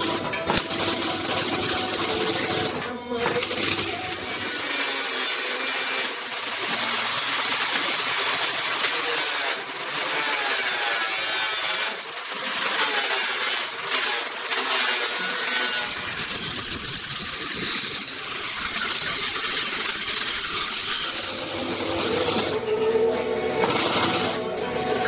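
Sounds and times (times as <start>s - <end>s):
grinder disc cutting steel: 0.0s - 25.0s.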